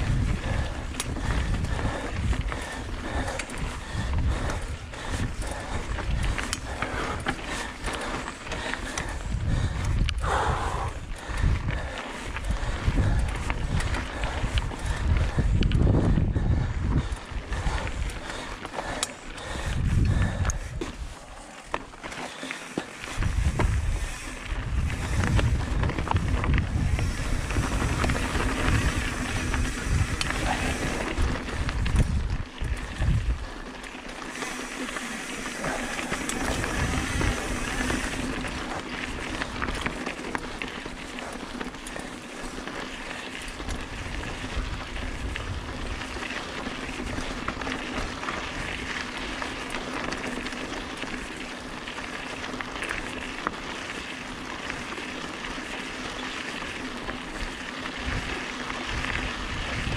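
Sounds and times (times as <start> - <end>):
wind buffeting microphone: 0.0 - 21.2, 23.1 - 51.8, 52.8 - 59.9
bike clicking and rattling: 0.0 - 59.9
tyres rolling over dirt and rock: 11.1 - 59.9.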